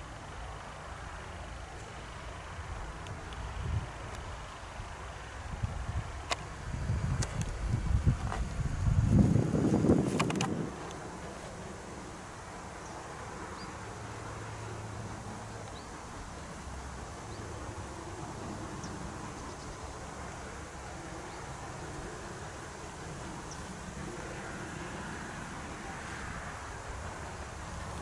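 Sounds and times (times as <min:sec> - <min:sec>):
low rumble and hiss: 0:00.0 - 0:28.0.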